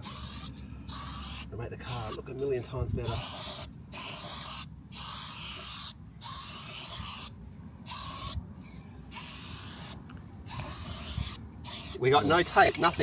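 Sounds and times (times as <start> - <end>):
spray paint hissing: 0.0 - 2.2, 3.0 - 13.0.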